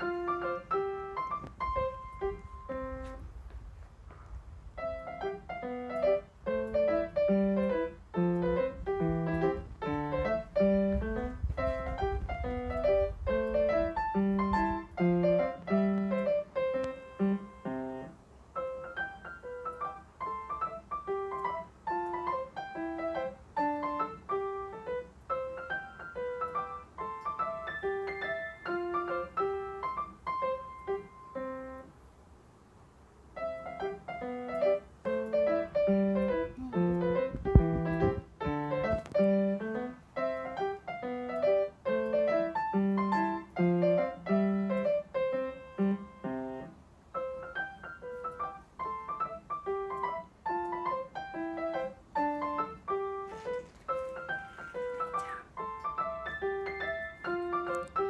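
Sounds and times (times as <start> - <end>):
solo piano music: 0.0 - 3.6, 4.4 - 58.0.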